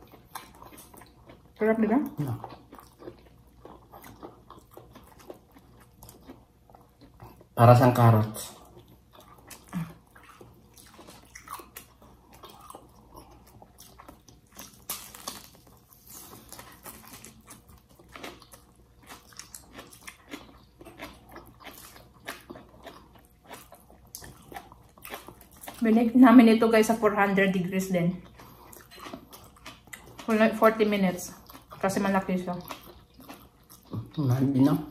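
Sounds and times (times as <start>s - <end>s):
people chewing and biting: 0.0s - 26.0s, 28.2s - 34.9s.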